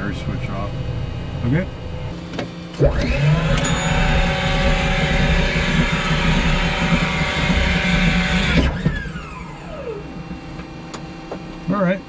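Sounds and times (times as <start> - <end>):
jet engine whine: 0.0 - 12.0
jet engine winding down: 0.0 - 12.0.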